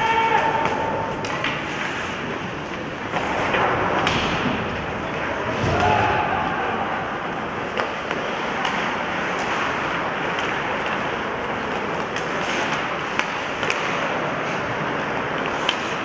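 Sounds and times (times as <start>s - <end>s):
hockey sticks clacking on puck: 0.0s - 4.6s, 7.6s - 16.0s
arena noise and skating: 0.0s - 16.0s.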